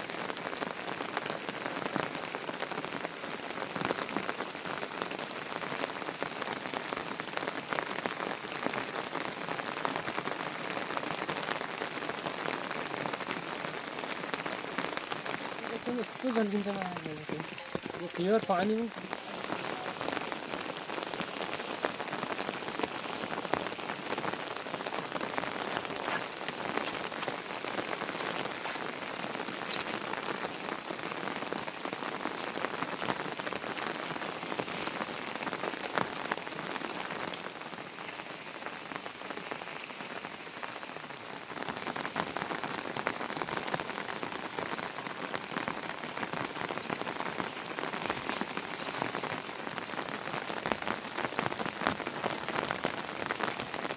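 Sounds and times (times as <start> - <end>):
heavy rain falling: 0.0 - 53.9
raindrops ticking close by: 0.0 - 53.9.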